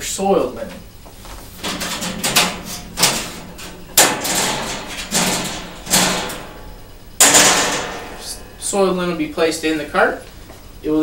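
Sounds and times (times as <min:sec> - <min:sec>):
metal shelves clanking and rattling: 0:01.3 - 0:10.2.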